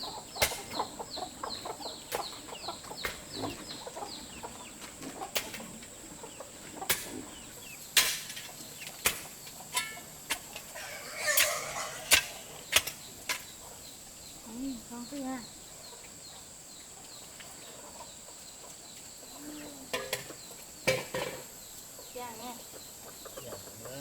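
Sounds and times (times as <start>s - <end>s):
chickens peeping and clucking: 0.0s - 24.0s.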